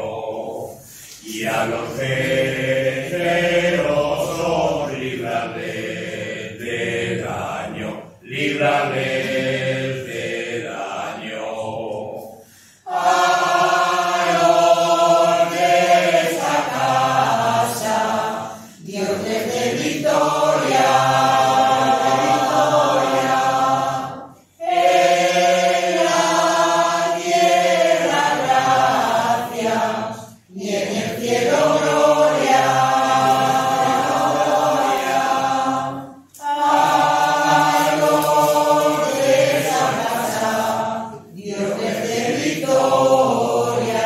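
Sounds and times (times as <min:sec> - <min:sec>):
mixed choir singing unaccompanied: 0:00.0 - 0:44.0.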